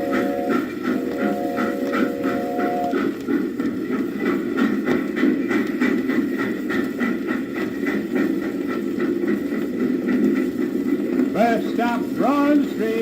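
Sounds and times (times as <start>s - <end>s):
train rumbling rhythmically: 0.0s - 13.0s.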